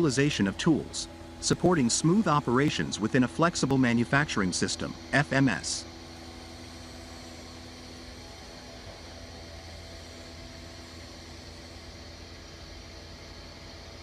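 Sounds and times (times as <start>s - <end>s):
machinery hum with high whine: 0.0s - 14.0s.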